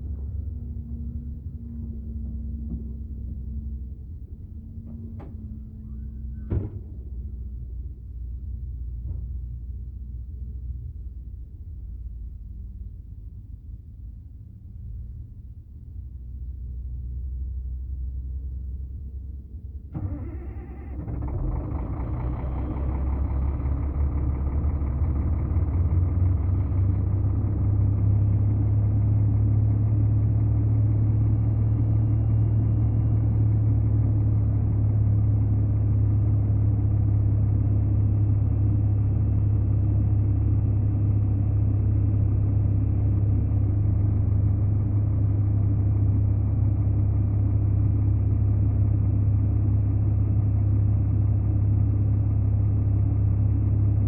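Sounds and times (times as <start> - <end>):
large vehicle engine humming: 0.0 - 54.0.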